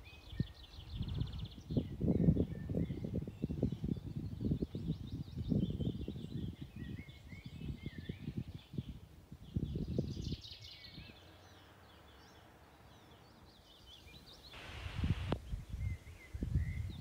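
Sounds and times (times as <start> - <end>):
small birds chirping: 0.0 - 17.0
wind buffeting microphone: 0.1 - 12.4, 14.6 - 17.0.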